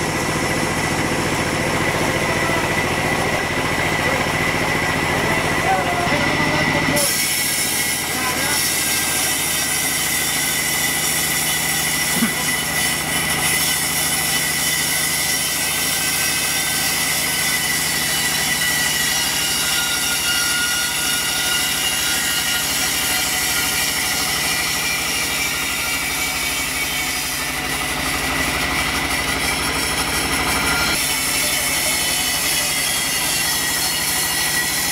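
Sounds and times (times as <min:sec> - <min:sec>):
band saw humming and whining: 0:00.0 - 0:34.9.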